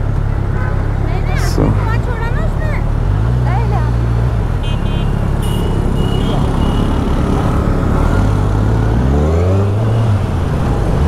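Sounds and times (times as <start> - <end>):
road and traffic noise: 0.0 - 11.0.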